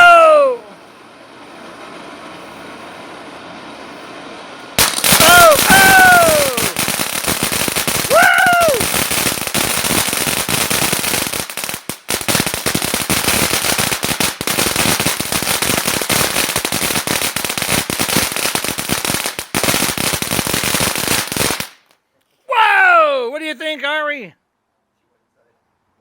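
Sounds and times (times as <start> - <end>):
firework fountain crackling: 0.0 - 22.0.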